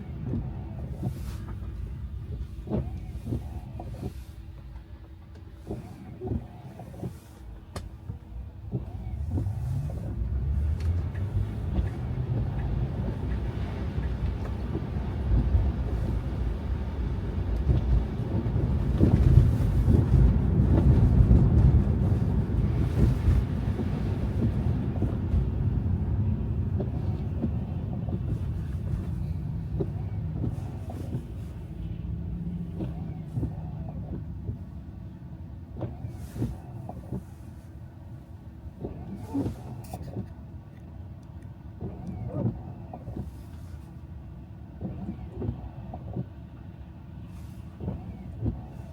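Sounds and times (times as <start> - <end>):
car tyres and engine rumbling: 0.0 - 48.9.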